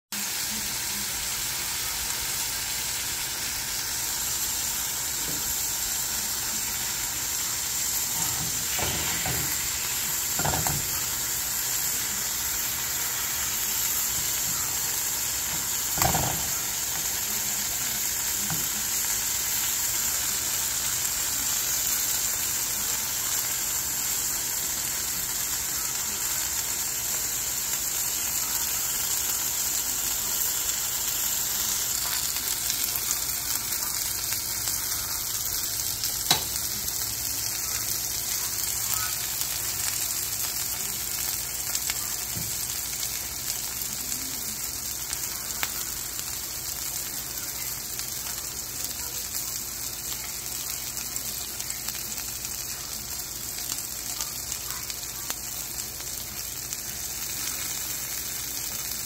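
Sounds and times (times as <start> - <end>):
meat and onions sizzling in pan: 0.1 - 59.0.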